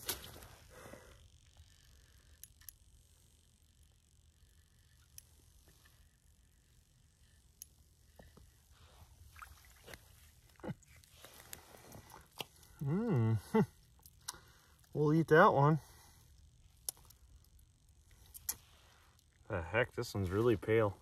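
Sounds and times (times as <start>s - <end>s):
faint low rumble: 0.0s - 21.0s.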